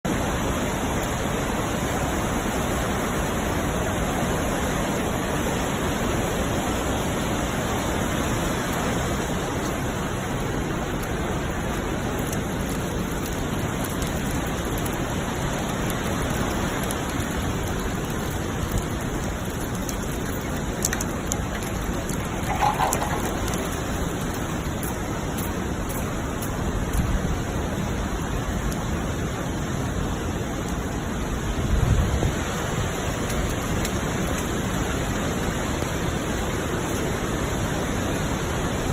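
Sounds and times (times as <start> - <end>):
heavy rain: 0.0 - 38.9
rushing flood water: 0.1 - 38.9.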